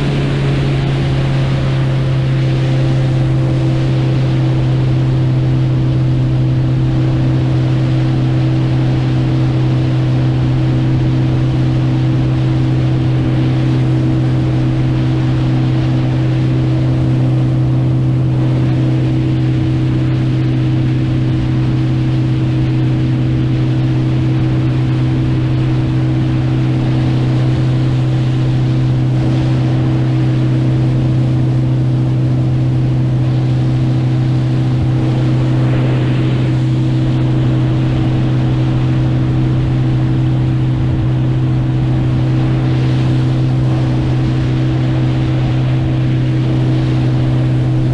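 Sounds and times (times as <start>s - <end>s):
motorboat engine droning: 0.0s - 47.9s
water rushing: 0.0s - 47.9s
wind: 0.0s - 47.9s.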